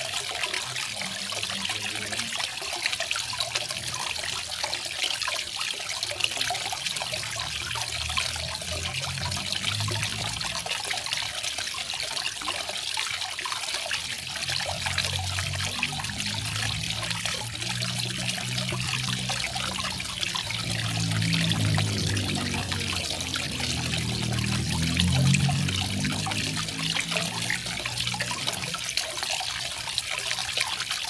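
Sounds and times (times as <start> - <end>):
water falling and splashing: 0.0 - 31.0.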